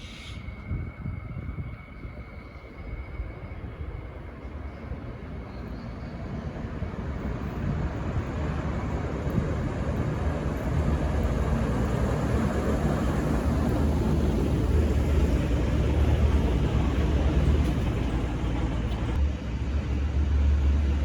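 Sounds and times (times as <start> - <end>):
train engine and wheel rumble: 0.0 - 21.0.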